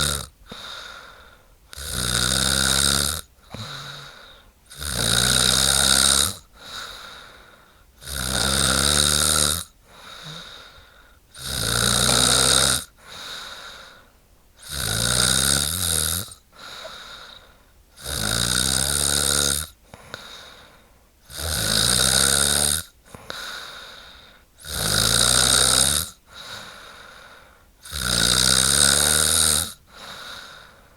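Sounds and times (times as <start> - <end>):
woman snoring: 0.0 - 7.4, 8.0 - 14.0, 14.6 - 17.4, 18.0 - 20.4, 21.3 - 24.0, 24.6 - 27.2, 27.8 - 30.7.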